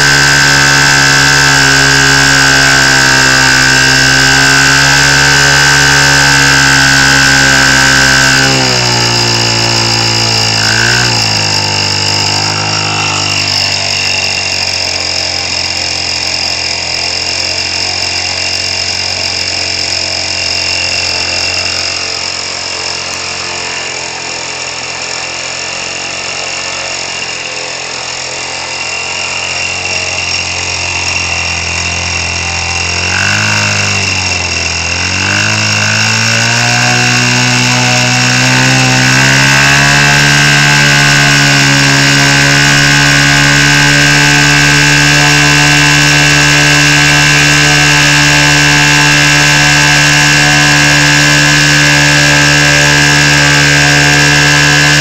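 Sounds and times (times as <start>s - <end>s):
small gas engine with propeller: 0.0s - 55.0s.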